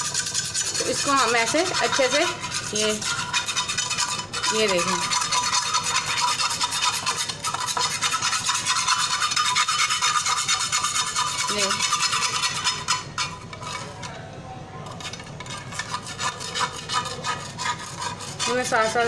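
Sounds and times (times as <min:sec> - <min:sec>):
knife scraping a griddle: 0:00.0 - 0:14.2, 0:14.8 - 0:19.0.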